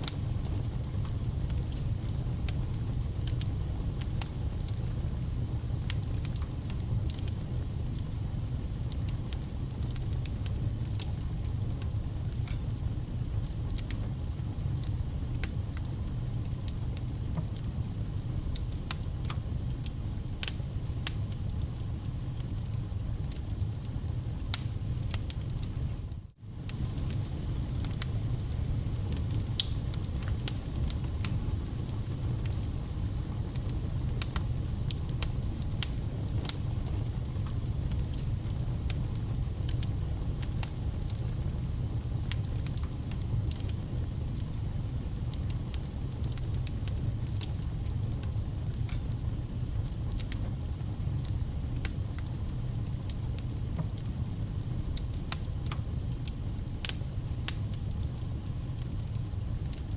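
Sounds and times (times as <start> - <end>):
campfire crackling and popping: 0.0 - 25.8, 26.5 - 59.9
low rumble of flames: 0.0 - 59.9.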